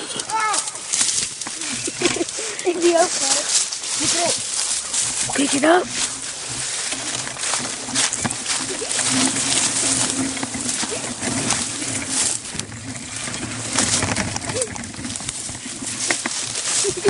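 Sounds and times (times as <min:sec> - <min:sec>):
dry leaves and twigs crackling: 0:00.0 - 0:17.0.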